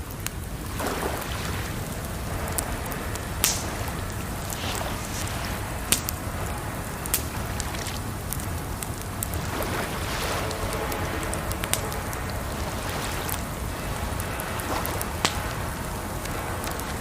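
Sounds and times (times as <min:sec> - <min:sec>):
burning wood popping: 0:00.0 - 0:17.0
campfire crackling: 0:00.0 - 0:17.0
rushing water: 0:00.0 - 0:17.0.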